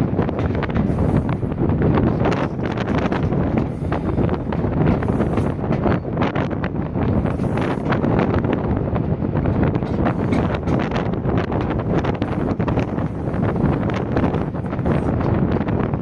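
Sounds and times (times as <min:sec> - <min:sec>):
train running noise: 0:00.0 - 0:16.0
wind buffeting microphone: 0:00.0 - 0:16.0.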